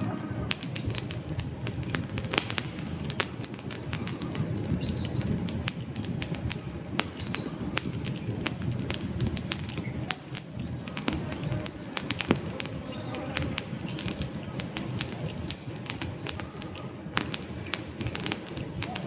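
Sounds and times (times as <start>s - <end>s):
campfire crackles and pops: 0.0s - 19.0s
low rush of flames: 0.0s - 19.0s.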